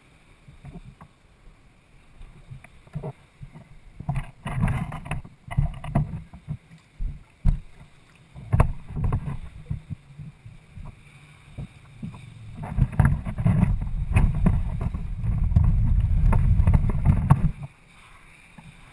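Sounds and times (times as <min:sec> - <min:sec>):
kayak dragged over ground rumble: 0:00.0 - 0:18.9
kayak hull knocks and bumps: 0:02.5 - 0:17.7.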